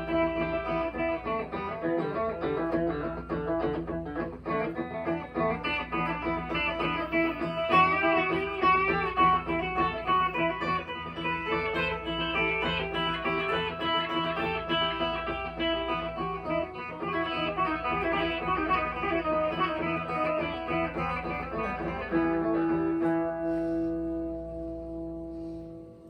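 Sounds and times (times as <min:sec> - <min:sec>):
blues guitar playing: 0:00.0 - 0:26.0.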